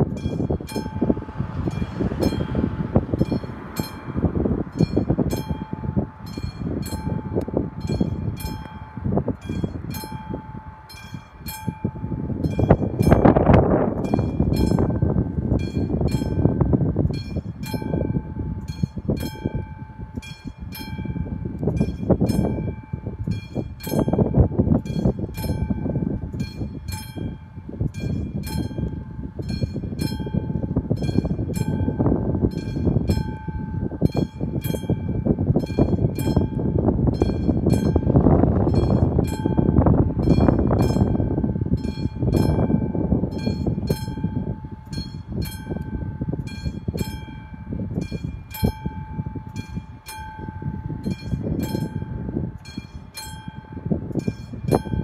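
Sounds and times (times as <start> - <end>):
loud uneven low rumble: 0.0 - 55.0.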